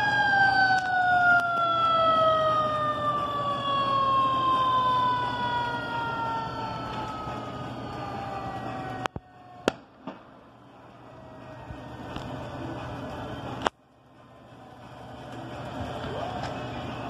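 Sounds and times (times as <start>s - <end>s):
fire engine siren winding down: 0.0s - 13.7s.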